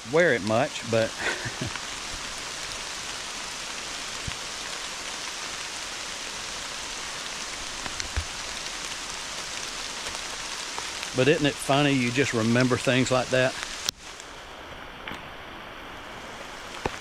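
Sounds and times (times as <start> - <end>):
hard rain hissing: 0.0 - 17.0
sharp raindrop hits: 0.5 - 14.3.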